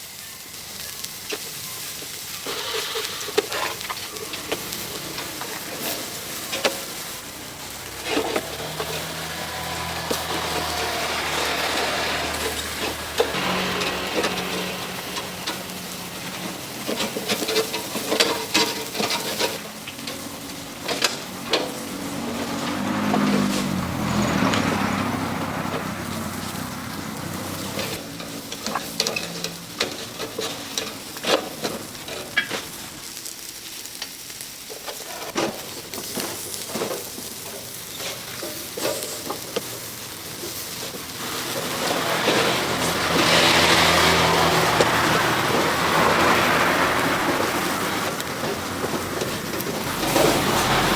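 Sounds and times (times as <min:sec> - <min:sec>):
food sizzling: 0:00.0 - 0:50.9
utensils clicking and clattering: 0:00.9 - 0:33.3, 0:33.9 - 0:50.9.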